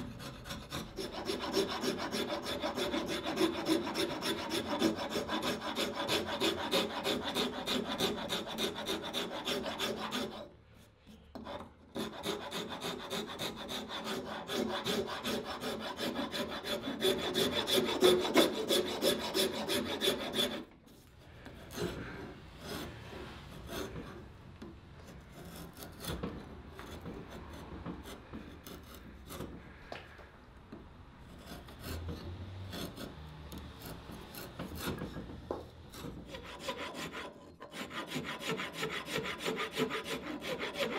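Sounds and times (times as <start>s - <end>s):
rasp scraping wood: 0.0s - 10.5s, 11.1s - 20.7s, 21.4s - 24.3s, 25.0s - 29.8s, 31.3s - 33.2s, 33.8s - 40.9s.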